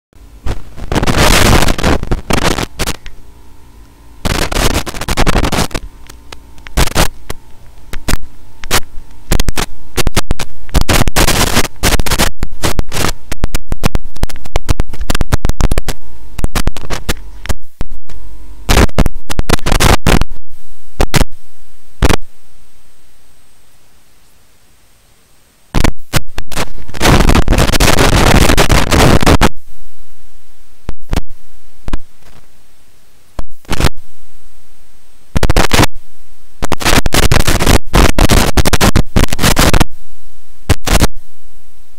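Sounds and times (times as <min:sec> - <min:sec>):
crackling microphone distortion: 0:00.2 - 0:41.9.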